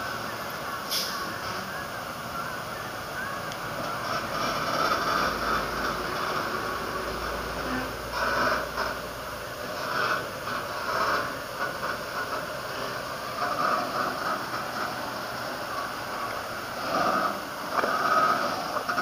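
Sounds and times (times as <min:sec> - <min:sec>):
steady hiss: 0:00.0 - 0:19.0
truck engine running: 0:00.0 - 0:19.0.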